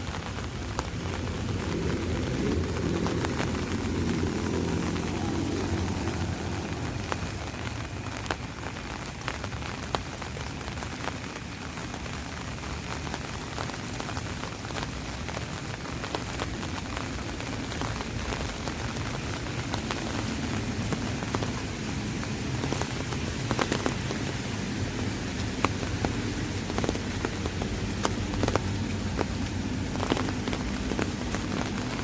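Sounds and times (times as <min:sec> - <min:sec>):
rain on an umbrella: 0:00.0 - 0:32.0.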